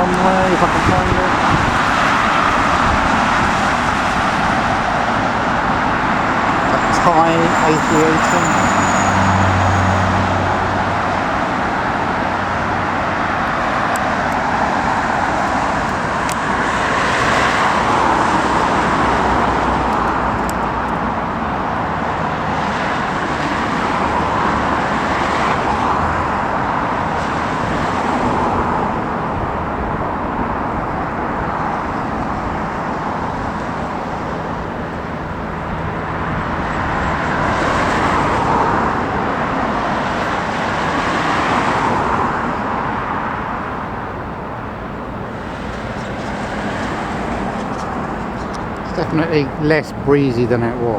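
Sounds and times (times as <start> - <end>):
airliner engine noise: 0.0 - 50.9
wind: 0.0 - 50.9.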